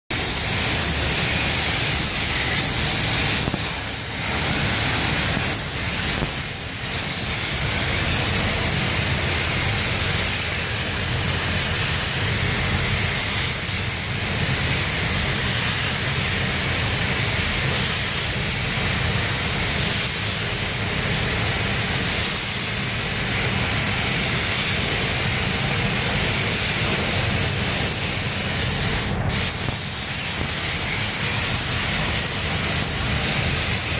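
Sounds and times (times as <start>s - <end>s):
spray gun hissing: 0.1s - 33.9s.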